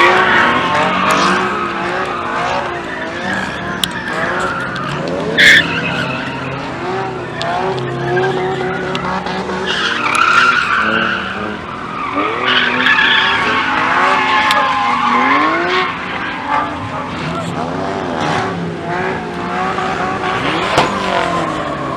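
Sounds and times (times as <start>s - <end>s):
car engines revving: 0.0s - 21.9s
tyres skidding and squealing: 0.0s - 21.9s.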